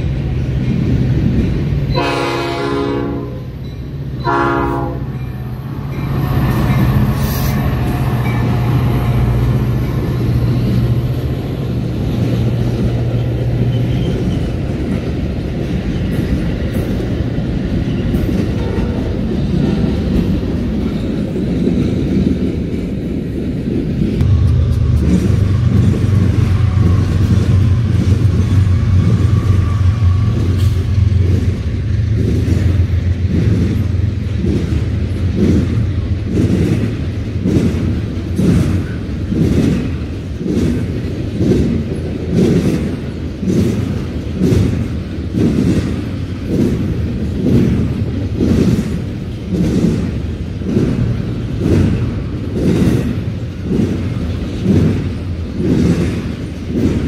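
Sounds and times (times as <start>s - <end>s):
freight train rumble: 0.0s - 57.0s
wheels clacking over rail joints: 0.0s - 57.0s.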